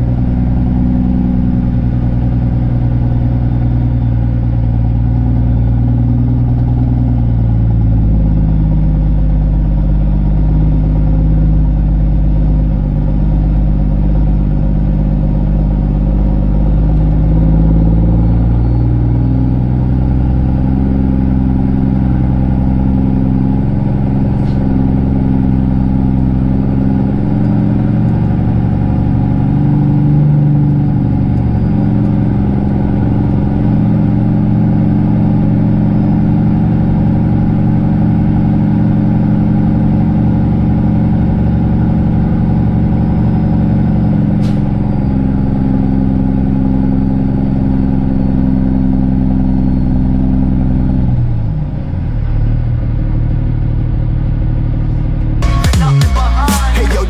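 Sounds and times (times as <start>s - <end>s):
diesel truck exhaust: 0.0s - 57.0s.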